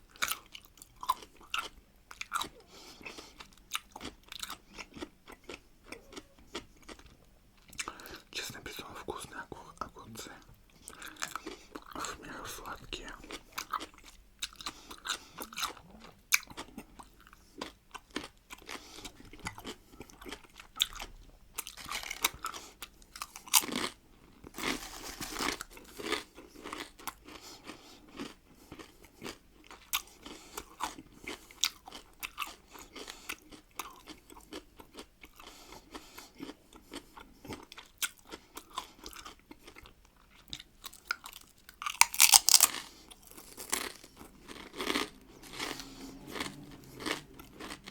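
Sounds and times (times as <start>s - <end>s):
crunchy chewing of cucumbers: 0.0s - 47.9s.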